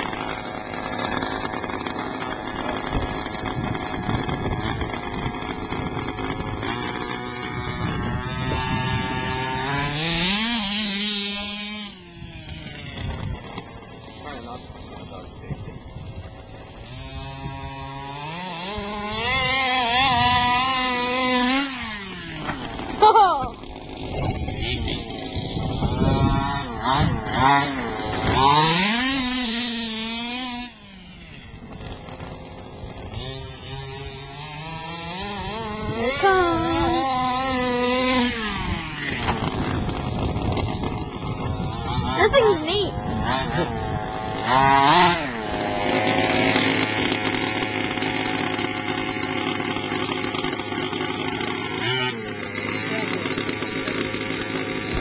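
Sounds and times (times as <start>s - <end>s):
small two-stroke engine revving: 0.0s - 55.0s.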